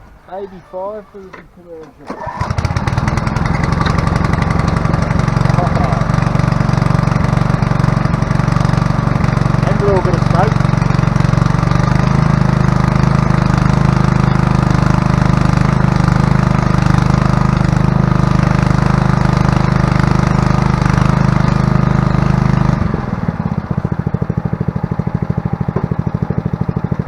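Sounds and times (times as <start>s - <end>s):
lawn mower engine running: 0.0s - 27.0s.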